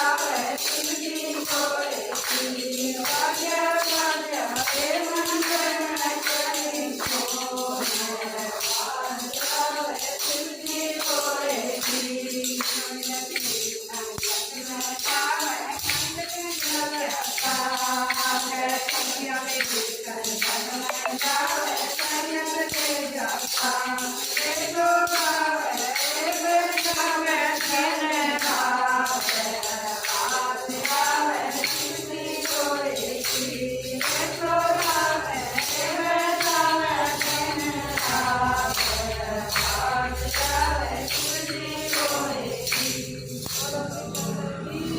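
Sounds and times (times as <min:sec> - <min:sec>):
jingling hand percussion: 0:00.0 - 0:44.9
woman singing: 0:00.0 - 0:44.9.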